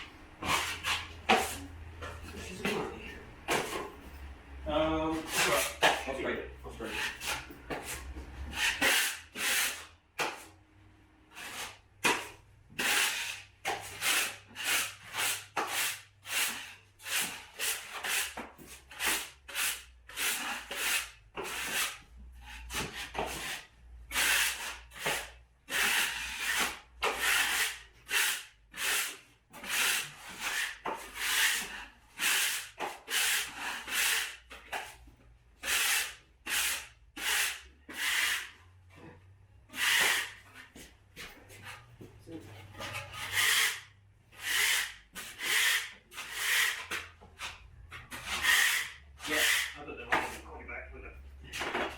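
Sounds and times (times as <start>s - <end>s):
hand rubbing drywall: 0.4s - 4.0s, 5.1s - 6.2s, 11.3s - 35.0s, 35.6s - 50.5s.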